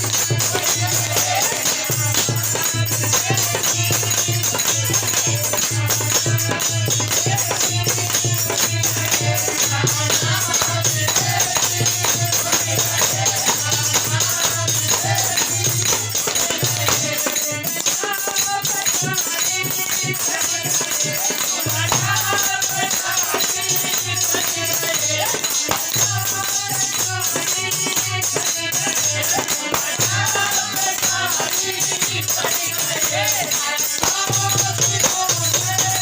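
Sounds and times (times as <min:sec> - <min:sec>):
jingling hand percussion: 0:00.0 - 0:36.0
person singing devotional song: 0:00.0 - 0:36.0
steady drum beat: 0:00.0 - 0:36.0.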